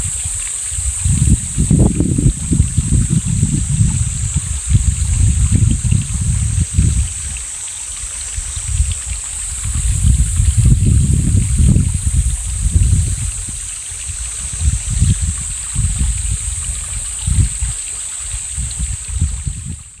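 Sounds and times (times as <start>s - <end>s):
stream running: 0.0s - 20.0s.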